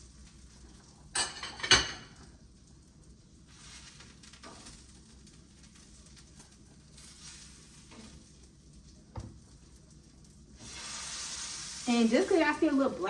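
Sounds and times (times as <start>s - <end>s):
sausages sizzling in a skillet: 0.0s - 13.0s.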